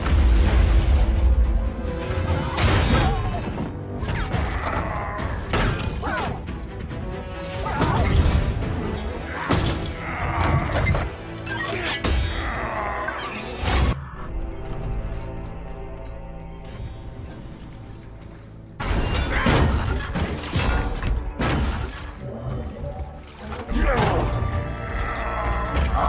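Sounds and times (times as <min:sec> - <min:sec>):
orchestral score: 0:00.0 - 0:26.0.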